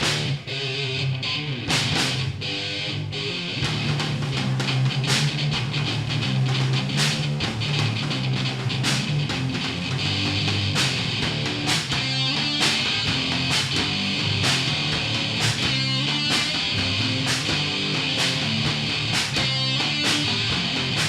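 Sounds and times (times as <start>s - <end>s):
electric guitar: 0.0s - 21.0s
rock band playing: 0.0s - 21.0s.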